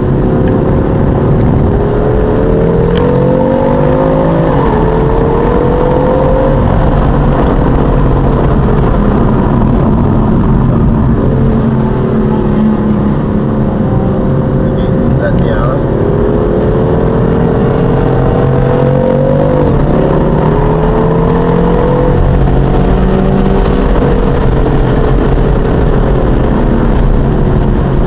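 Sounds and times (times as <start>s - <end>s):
car engine accelerating: 0.0s - 28.0s
tyre and road noise: 0.0s - 28.0s.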